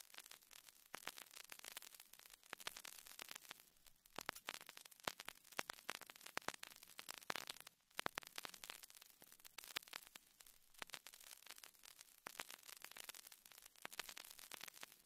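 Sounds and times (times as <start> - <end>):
crackling static: 0.0 - 15.0.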